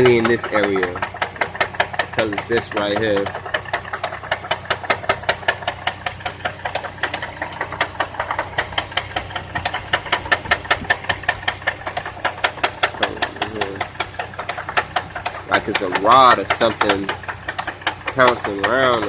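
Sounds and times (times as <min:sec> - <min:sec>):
car engine idling: 0:00.0 - 0:19.0
rapid engine knock: 0:00.0 - 0:19.0.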